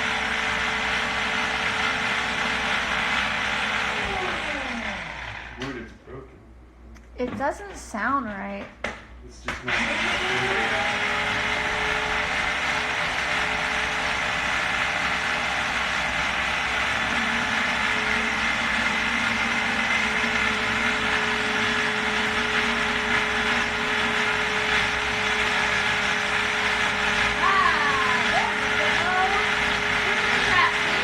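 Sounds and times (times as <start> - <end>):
food processor motor whirring: 0.0 - 5.8, 9.5 - 31.0.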